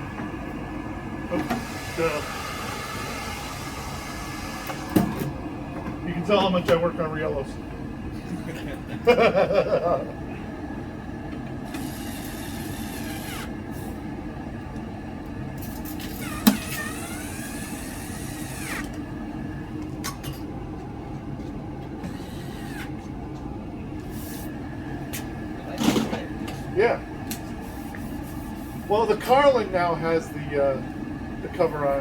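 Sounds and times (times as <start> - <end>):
oil burner running: 0.0 - 32.0.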